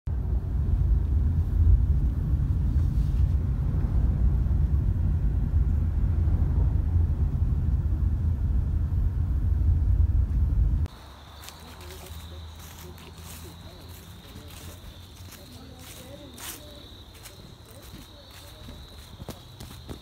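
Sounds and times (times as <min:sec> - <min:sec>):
road and engine rumble in car: 0:00.1 - 0:20.0.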